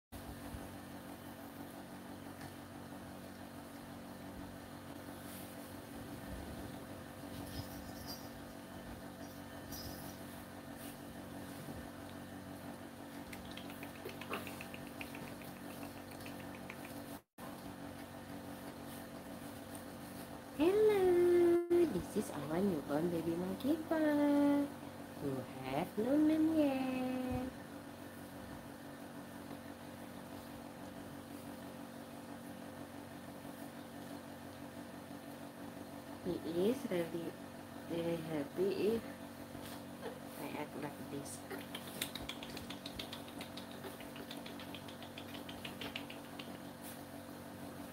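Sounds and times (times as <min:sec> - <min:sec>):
low mechanical hum: 0:00.2 - 0:47.9.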